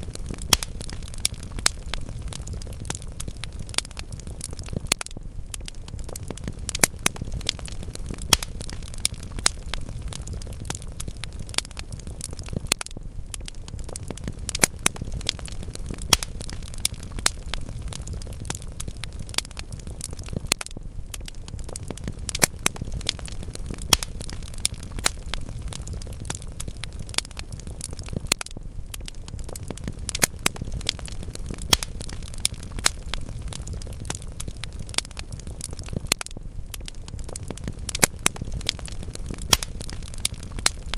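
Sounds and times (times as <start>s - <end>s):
burning logs crackling and popping: 0.0s - 40.9s
low rumble of flames: 0.0s - 40.9s.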